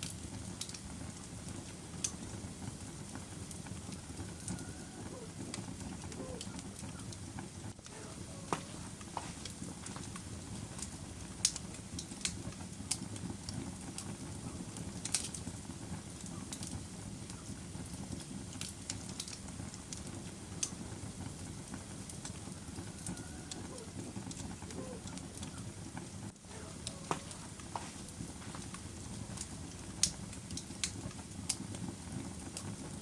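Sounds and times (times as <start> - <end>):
fire crackling and popping: 0.0 - 33.0
fire flames rumbling: 0.0 - 33.0.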